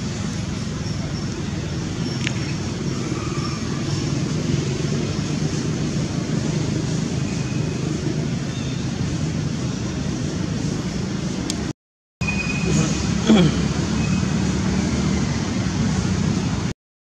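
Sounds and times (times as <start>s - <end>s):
road traffic rumble: 0.0s - 16.8s.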